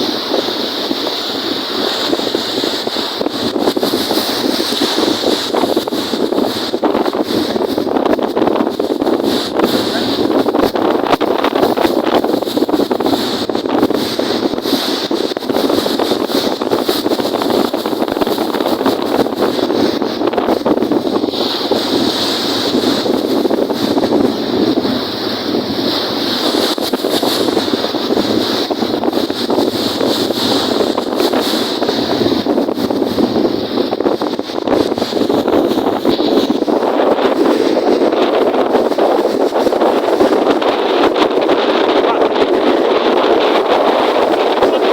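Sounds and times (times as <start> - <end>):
lake waves: 0.0 - 44.9
wind buffeting microphone: 0.0 - 44.9.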